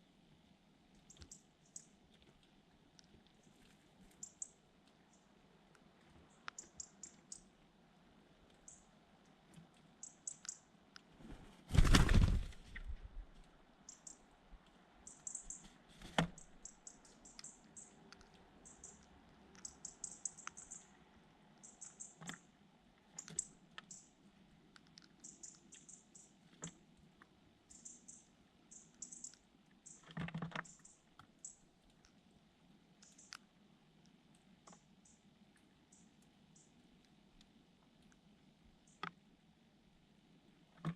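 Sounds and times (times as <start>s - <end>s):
small birds chirping: 0.9s - 37.4s.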